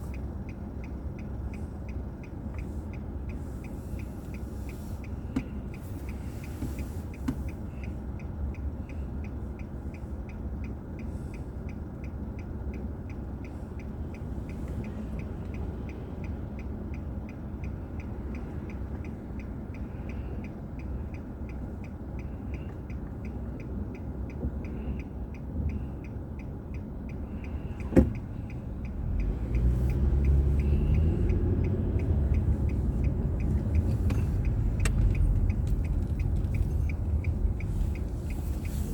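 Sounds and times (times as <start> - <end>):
car engine and road noise: 0.0 - 38.9
turn signal ticking: 0.0 - 38.9.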